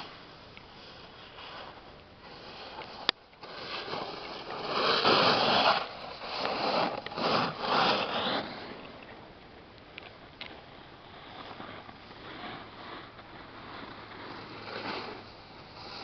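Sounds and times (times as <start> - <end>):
snowboard scraping over snow: 0.8 - 9.0, 10.8 - 16.0.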